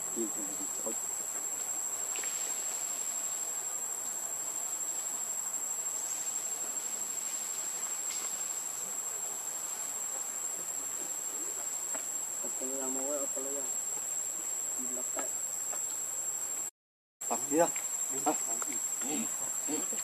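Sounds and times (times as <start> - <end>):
shrill insect chorus: 0.0 - 20.0.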